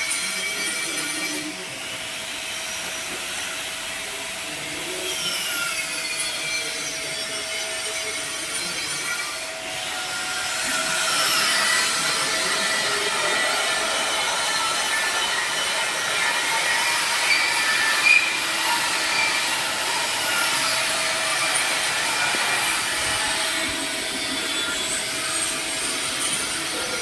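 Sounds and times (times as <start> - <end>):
welding arc crackling and hissing: 0.0 - 27.0.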